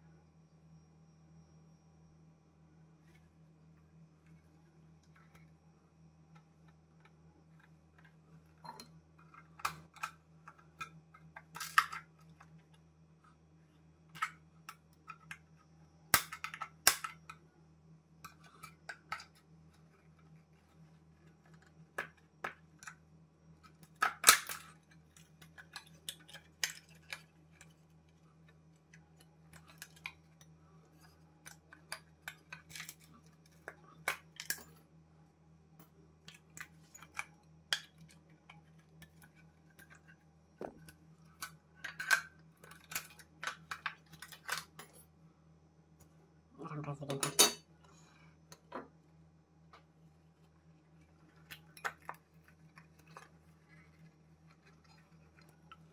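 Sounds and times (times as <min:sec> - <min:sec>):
low steady hum: 0:00.0 - 0:55.9.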